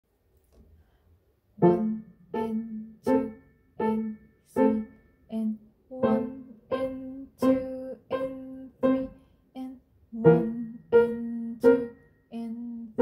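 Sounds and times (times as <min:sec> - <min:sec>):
grand piano slow notes: 0:01.6 - 0:09.3, 0:10.2 - 0:13.0.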